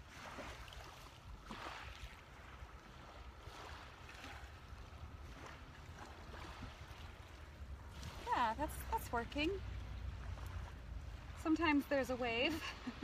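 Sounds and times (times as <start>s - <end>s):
faint ocean surf: 0.0s - 13.0s.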